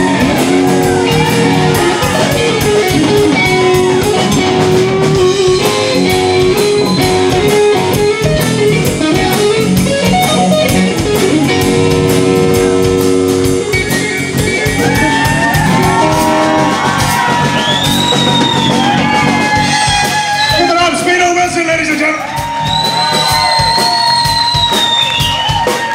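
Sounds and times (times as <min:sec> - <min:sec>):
bass guitar: 0:00.0 - 0:25.9
drum kit: 0:00.0 - 0:25.9
electric guitar lead: 0:00.0 - 0:25.9.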